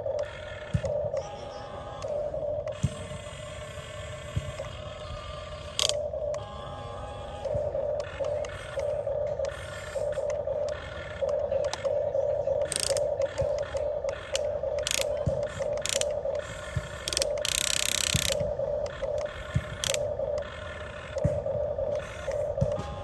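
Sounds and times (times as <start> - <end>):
gears clicking and ratcheting: 0.0 - 12.0, 12.6 - 23.0
small electric motors whining: 0.0 - 23.0.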